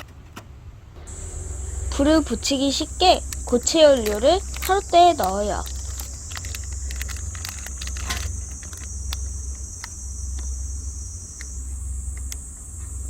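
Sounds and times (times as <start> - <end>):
low hum: 0.8 - 13.0
steady high hiss: 0.8 - 13.0.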